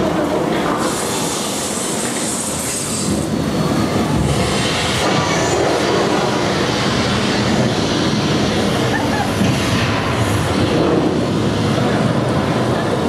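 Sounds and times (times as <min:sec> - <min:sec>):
train running on rails: 0:00.0 - 0:13.0
high hiss: 0:00.6 - 0:12.2.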